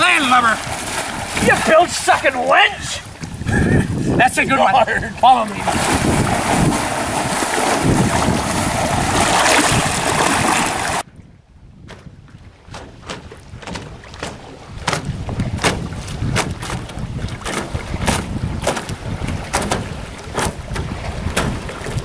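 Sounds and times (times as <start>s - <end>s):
water slapping against boat: 0.0s - 22.0s
wind buffeting microphone: 0.0s - 22.0s.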